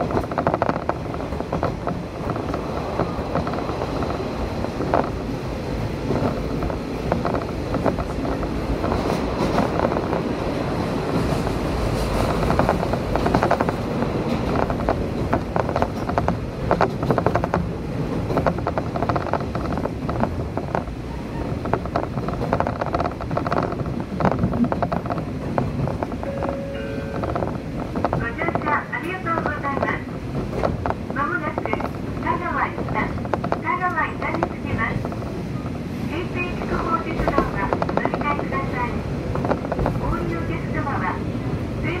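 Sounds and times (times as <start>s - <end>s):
wheels clacking over track: 0.0s - 35.5s, 36.5s - 40.4s
diesel railcar engine rumble: 0.0s - 42.0s.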